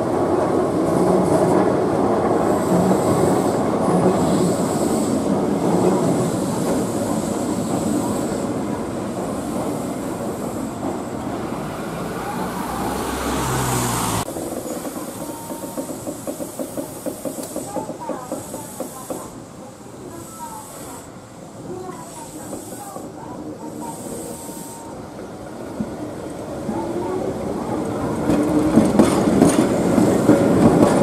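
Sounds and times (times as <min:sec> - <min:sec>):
electric train rumbling past: 0:00.0 - 0:31.0
train moving slowly: 0:00.0 - 0:31.0.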